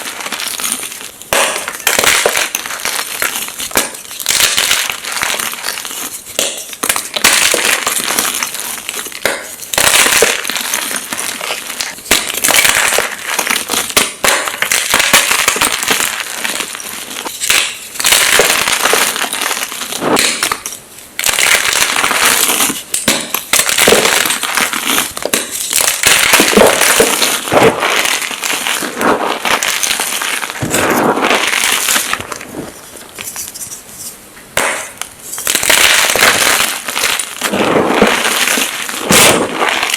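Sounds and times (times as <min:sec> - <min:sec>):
chalk crunching and crackling: 0:00.0 - 0:20.7, 0:24.3 - 0:39.9.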